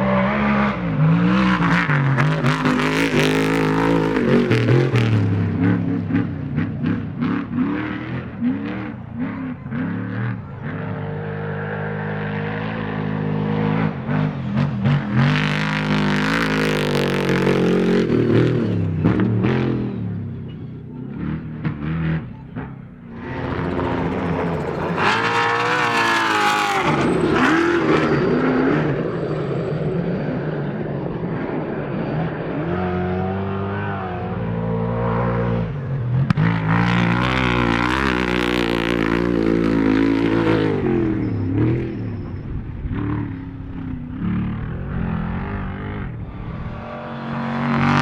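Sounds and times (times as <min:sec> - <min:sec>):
truck engines revving: 0:00.0 - 0:48.0.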